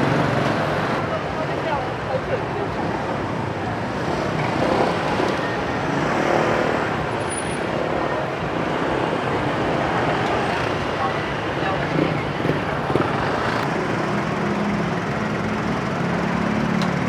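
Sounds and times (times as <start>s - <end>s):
motorcycle and car engines: 0.0s - 17.0s
road noise: 0.0s - 17.0s.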